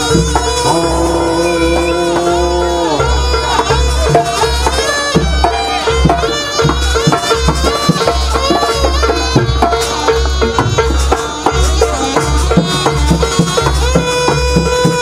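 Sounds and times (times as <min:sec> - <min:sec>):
drums keeping steady beat: 0:00.0 - 0:15.0
held drone note: 0:00.0 - 0:15.0
sliding melody line: 0:00.0 - 0:15.0.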